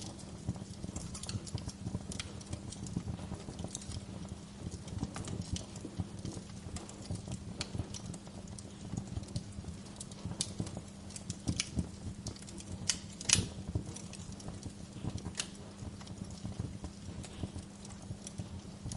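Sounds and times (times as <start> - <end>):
wood fire crackling: 0.0 - 18.9
sharp pops and snaps: 0.1 - 18.9.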